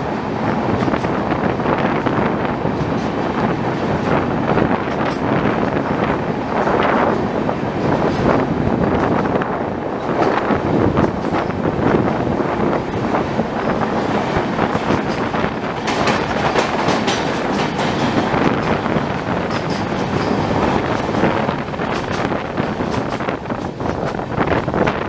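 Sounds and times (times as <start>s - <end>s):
train wheels clattering over rails: 0.0s - 25.0s.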